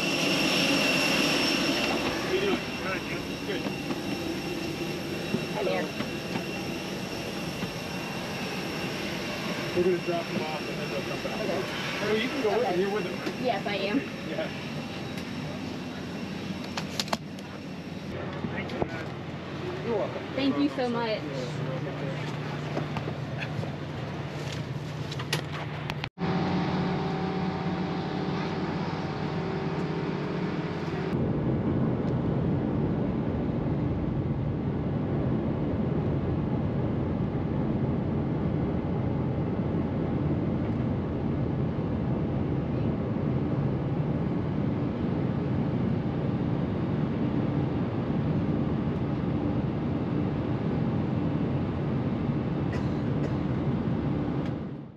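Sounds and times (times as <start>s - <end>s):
jet engines and airflow rumble: 0.0s - 54.9s.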